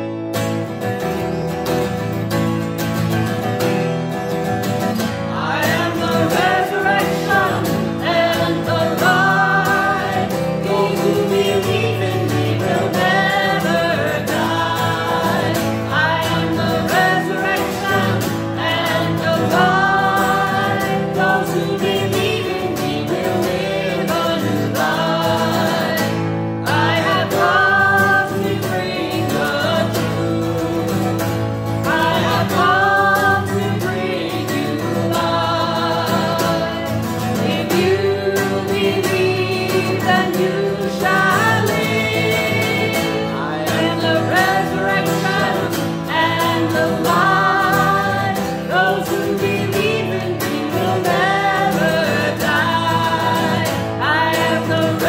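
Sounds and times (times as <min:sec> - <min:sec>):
strummed acoustic guitars: 0:00.0 - 0:55.0
group of people singing: 0:00.8 - 0:55.0.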